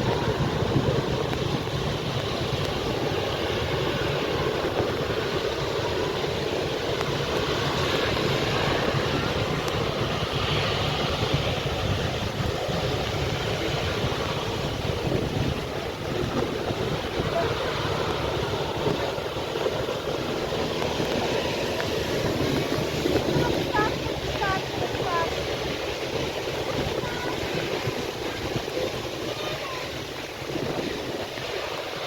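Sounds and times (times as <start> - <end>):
jet engines at takeoff power: 0.0 - 32.0
wind buffeting microphone: 0.0 - 32.0.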